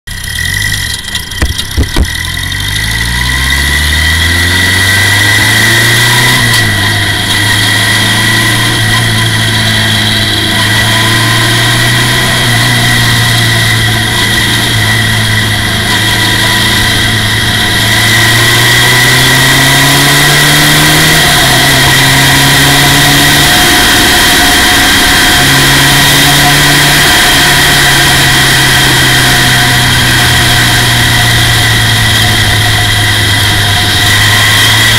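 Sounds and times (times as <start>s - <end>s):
race car engine revving: 0.1s - 34.9s
steady high whine: 0.1s - 34.9s.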